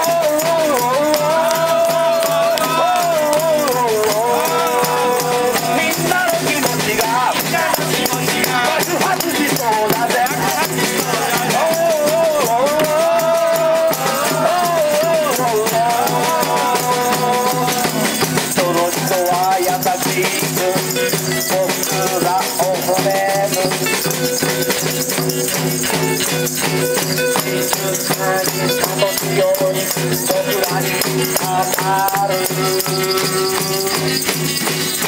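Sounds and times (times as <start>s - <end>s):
guitars strumming: 0.0s - 35.0s
man singing: 0.0s - 35.0s
shaker rattling: 0.0s - 35.0s.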